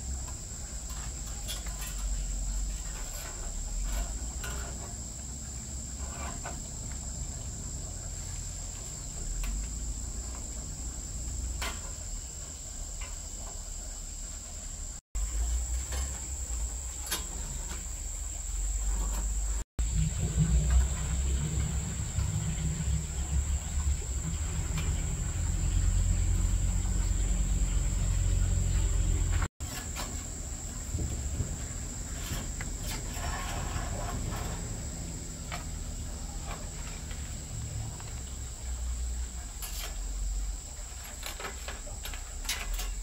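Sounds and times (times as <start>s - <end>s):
insects calling: 0.0s - 43.0s.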